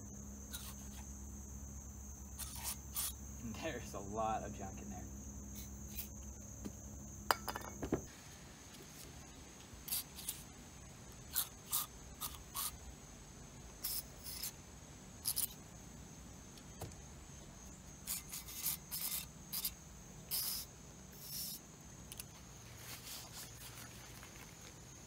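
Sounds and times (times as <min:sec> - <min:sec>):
high insect chirr: 0:00.0 - 0:25.0.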